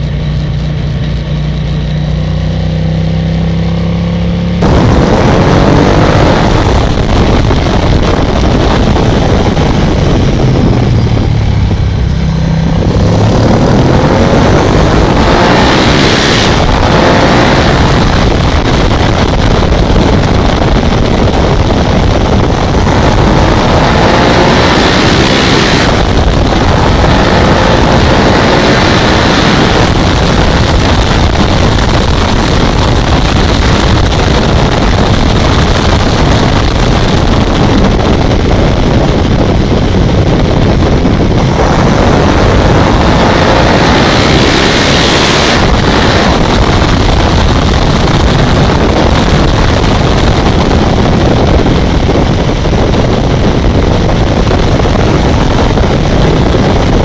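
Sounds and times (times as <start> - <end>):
motorcycle engine revving: 0.0 - 57.0
wind buffeting microphone: 4.6 - 57.0.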